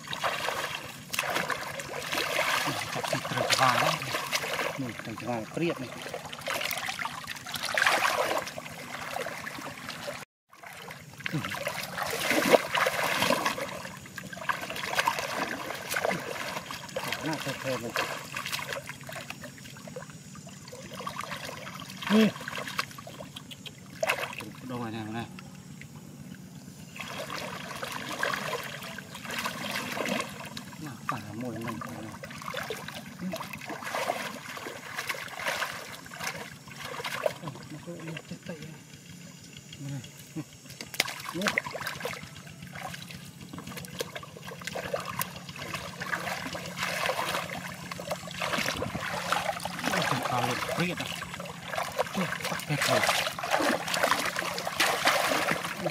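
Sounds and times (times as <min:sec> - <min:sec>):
hands splashing in muddy water: 0:00.0 - 0:20.0, 0:26.9 - 0:37.7, 0:40.6 - 0:55.9.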